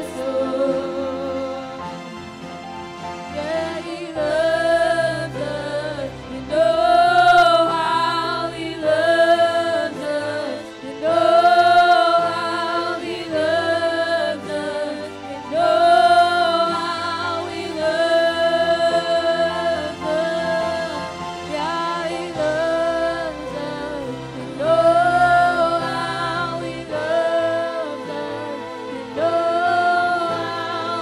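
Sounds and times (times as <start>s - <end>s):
woman singing into microphone: 0.0s - 2.0s, 3.4s - 31.0s.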